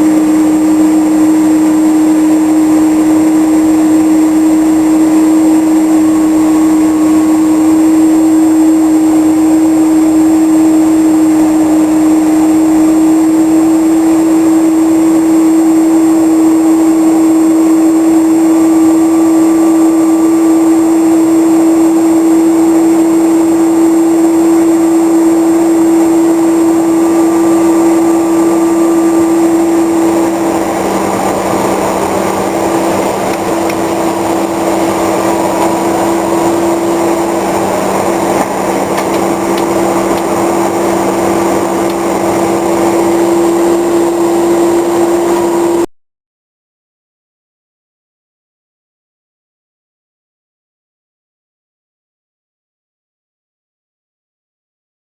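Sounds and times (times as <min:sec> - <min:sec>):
aircraft flight deck droning rush: 0:00.0 - 0:45.9.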